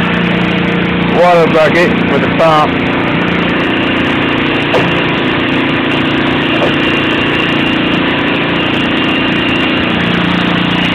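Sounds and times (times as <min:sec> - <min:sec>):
core drill motor hum: 0:00.0 - 0:10.9.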